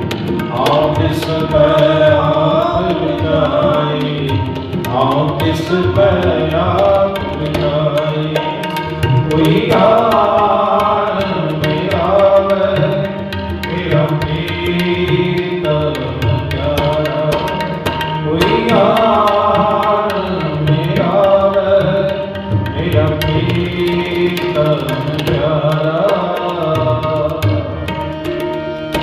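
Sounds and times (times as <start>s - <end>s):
harmonium: 0.0s - 29.0s
tabla playing: 0.0s - 29.0s
man singing: 0.4s - 27.9s.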